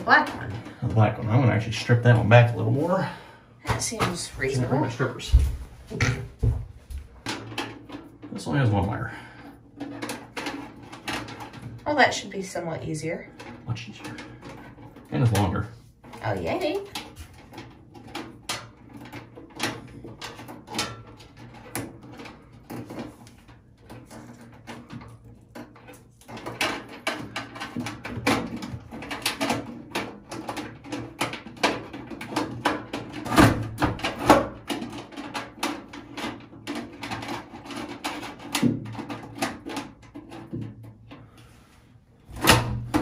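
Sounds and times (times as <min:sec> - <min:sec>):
clicks and rattles of wires: 0:03.6 - 0:43.0.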